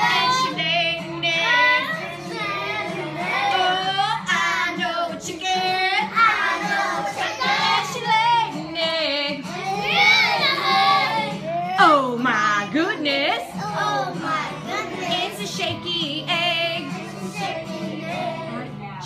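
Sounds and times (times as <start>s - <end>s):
woman singing: 0.0s - 9.6s, 11.7s - 13.6s, 14.2s - 19.0s
children singing: 0.0s - 11.8s, 13.5s - 18.8s.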